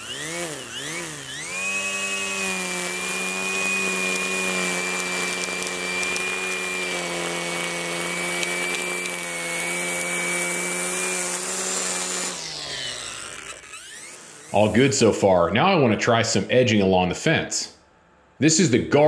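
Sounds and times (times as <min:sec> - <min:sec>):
string trimmer high whine: 0:00.0 - 0:15.4.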